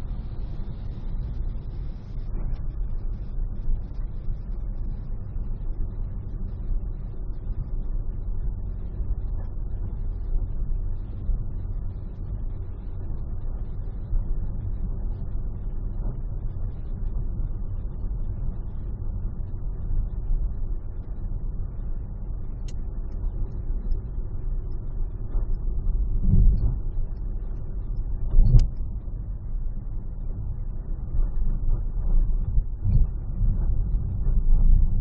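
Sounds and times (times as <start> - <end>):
car cabin road rumble: 6.1 - 35.0.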